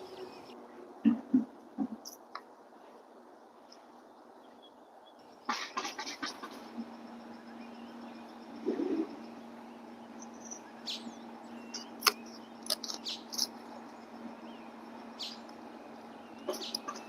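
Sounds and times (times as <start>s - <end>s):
birds chirping: 0.0s - 2.4s, 3.0s - 17.0s
faint outdoor background: 0.0s - 17.0s.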